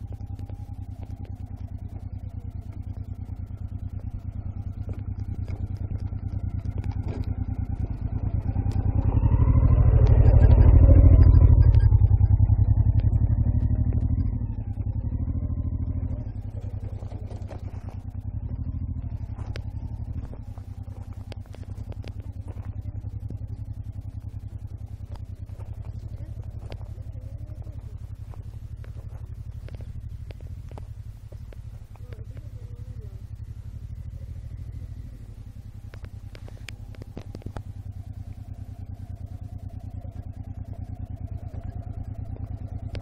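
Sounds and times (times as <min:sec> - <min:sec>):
motorcycle engine passing: 0:00.0 - 0:43.0.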